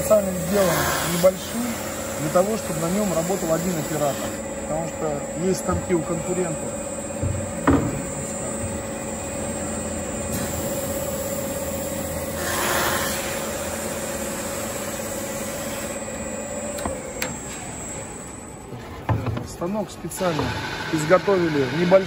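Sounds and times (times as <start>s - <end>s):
machine motor hum: 0.0s - 22.0s.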